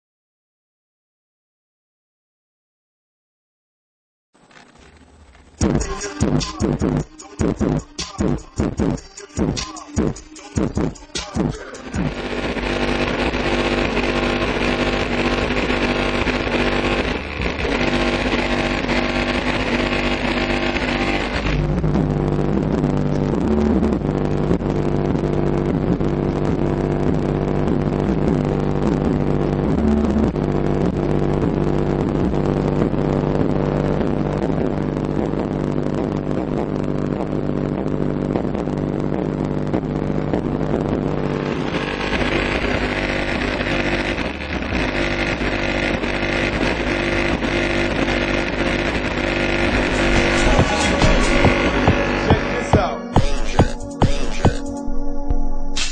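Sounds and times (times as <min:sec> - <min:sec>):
hip-hop track with heavy bass: 0:05.6 - 0:55.9.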